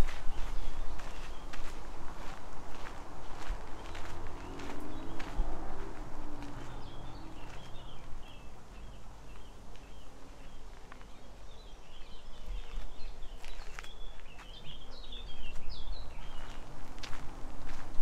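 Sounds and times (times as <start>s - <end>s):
footsteps on path: 0.0s - 18.0s
songbirds chirping: 0.0s - 18.0s.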